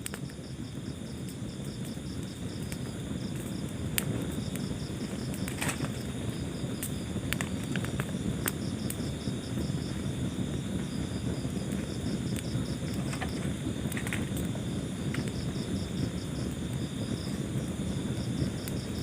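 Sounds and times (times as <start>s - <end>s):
fire burning in fireplace: 0.0s - 19.0s
fire crackling and popping: 0.0s - 19.0s.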